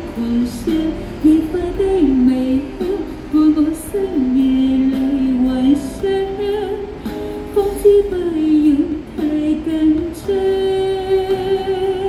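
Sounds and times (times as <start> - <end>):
woman singing pop ballad: 0.0 - 12.0.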